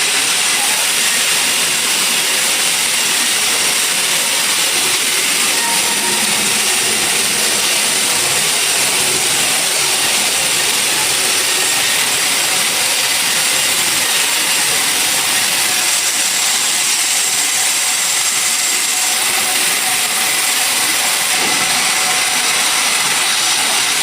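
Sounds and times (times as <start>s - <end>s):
sawmill machinery hissing: 0.0s - 24.0s.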